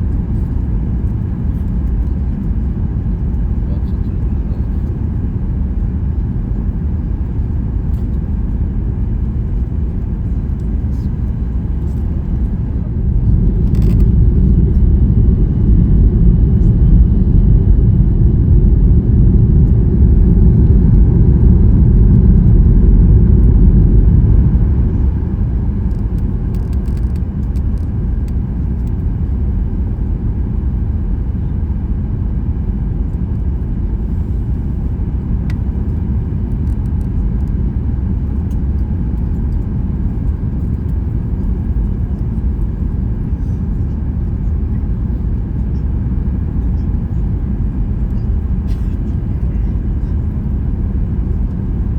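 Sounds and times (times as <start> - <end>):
vehicle rumble from inside: 0.0 - 51.9.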